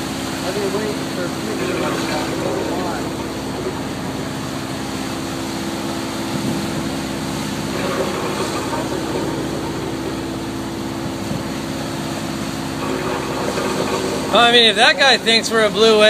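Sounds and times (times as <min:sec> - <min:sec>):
boat engine droning: 0:00.0 - 0:16.0
rush of wind and water: 0:00.0 - 0:16.0.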